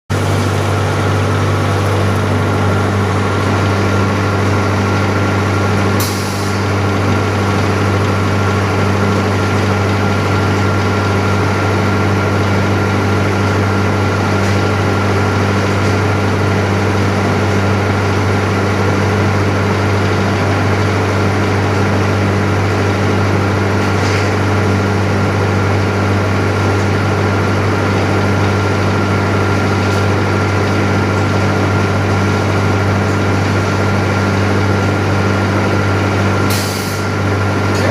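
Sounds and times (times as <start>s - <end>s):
furnace electrical hum: 0.1s - 37.9s.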